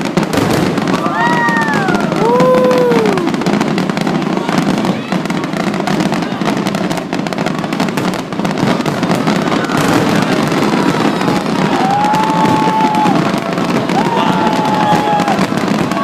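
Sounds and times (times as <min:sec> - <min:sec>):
firework whistling: 0:00.0 - 0:16.0
fireworks bursting and crackling: 0:00.0 - 0:16.0.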